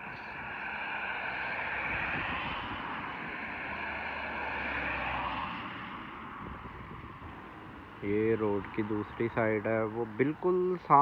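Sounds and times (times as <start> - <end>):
vehicle passing: 0.0 - 10.8.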